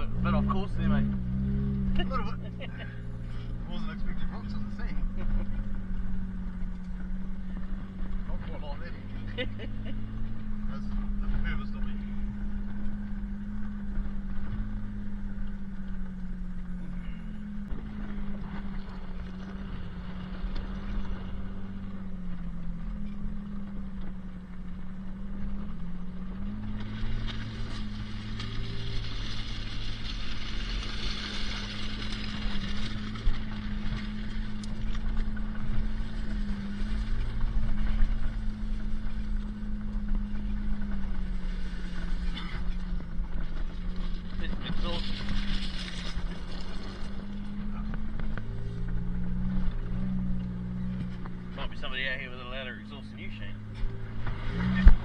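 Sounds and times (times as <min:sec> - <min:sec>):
car engine hum: 0:00.0 - 0:55.0
tyres on gravel track: 0:00.0 - 0:55.0.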